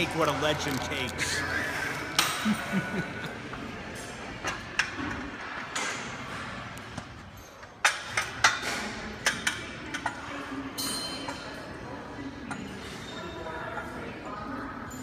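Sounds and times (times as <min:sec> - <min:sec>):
busy gym noise: 0:00.0 - 0:15.0.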